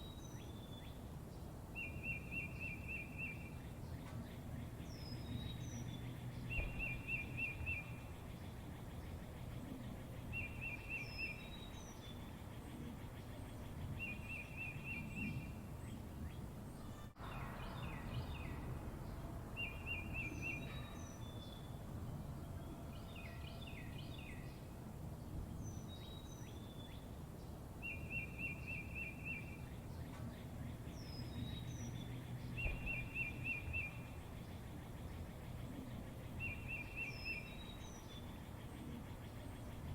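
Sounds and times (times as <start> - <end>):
birds calling: 0.0 - 24.7, 25.6 - 39.9
low steady background noise: 0.0 - 39.9.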